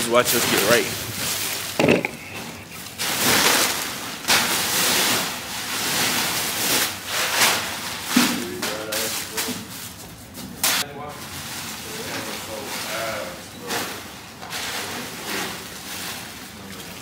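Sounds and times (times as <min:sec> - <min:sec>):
packages rustling and sliding: 0:00.1 - 0:16.7.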